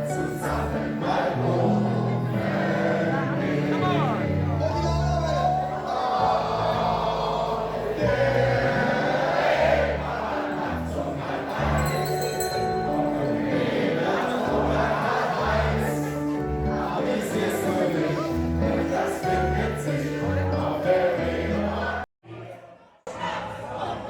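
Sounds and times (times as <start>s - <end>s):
group singing sea shanty: 0.0s - 24.0s.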